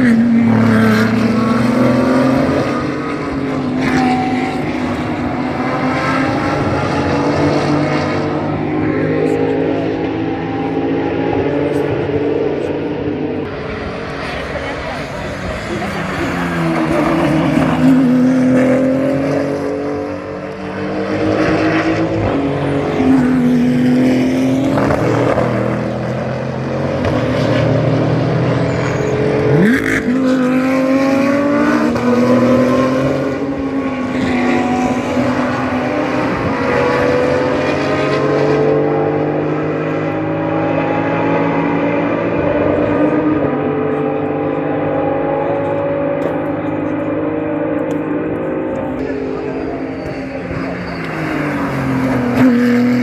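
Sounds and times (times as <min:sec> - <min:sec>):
race car engines accelerating: 0:00.0 - 0:53.0.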